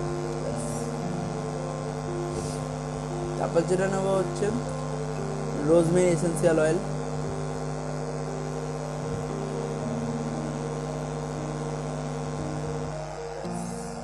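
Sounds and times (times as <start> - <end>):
ambient music drone: 0.0 - 14.0.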